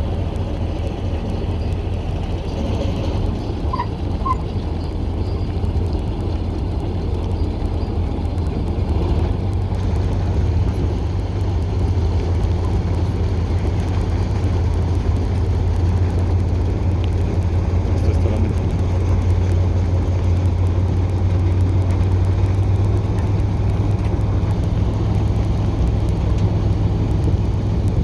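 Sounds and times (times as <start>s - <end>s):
diesel locomotive engine droning: 0.0s - 28.0s.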